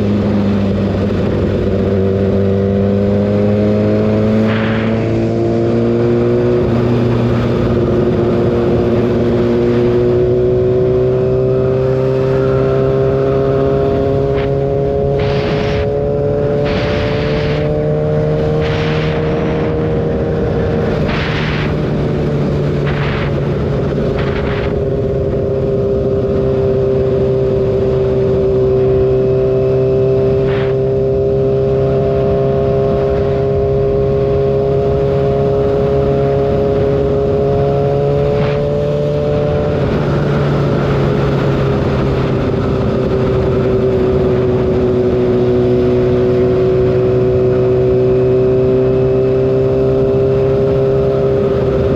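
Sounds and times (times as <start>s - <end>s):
motorcycle engine at high revs: 0.0s - 51.9s
wind noise on microphone: 0.0s - 51.9s.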